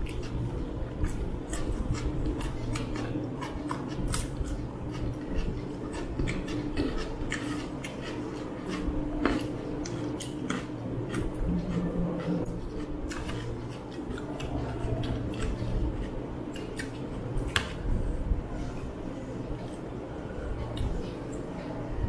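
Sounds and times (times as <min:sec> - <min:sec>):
wet chewing and lip smacking: 0:00.0 - 0:18.0
low steady hum: 0:00.0 - 0:22.0.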